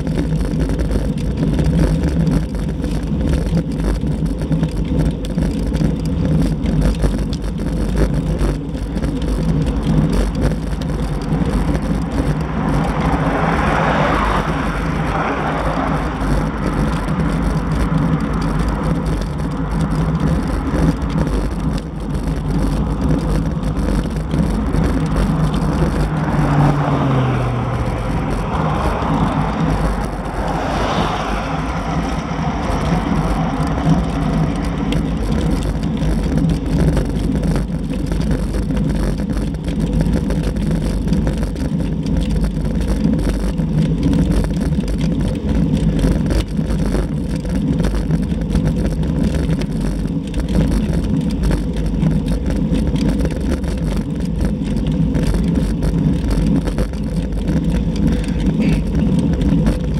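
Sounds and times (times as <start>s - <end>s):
motor vehicles passing: 0.0s - 59.9s
wind and road noise while cycling: 0.0s - 59.9s.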